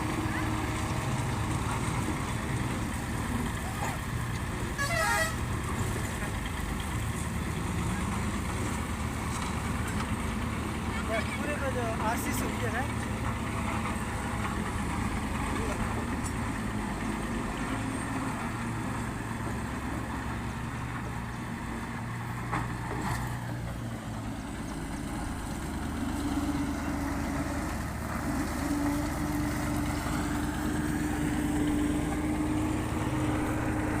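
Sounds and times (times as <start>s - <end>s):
heavy machinery engine rumbling: 0.0s - 34.0s.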